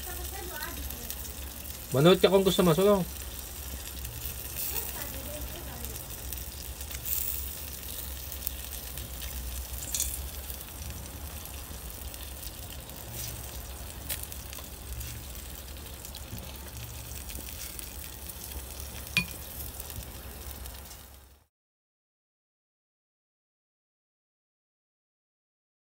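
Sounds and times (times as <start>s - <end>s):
chicken sizzling on a grill: 0.0s - 21.5s.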